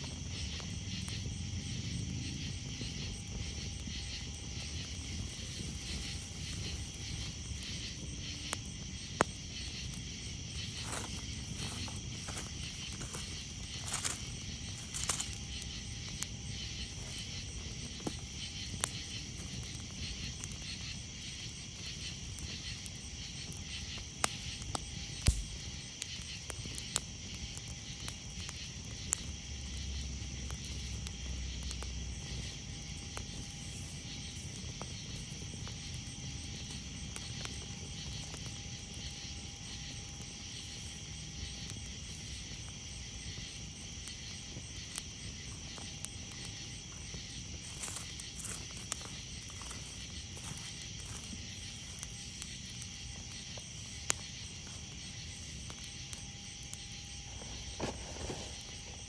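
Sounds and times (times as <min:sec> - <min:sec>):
campfire crackling and popping: 0:00.0 - 0:59.0
night insects chirring: 0:00.0 - 0:59.0.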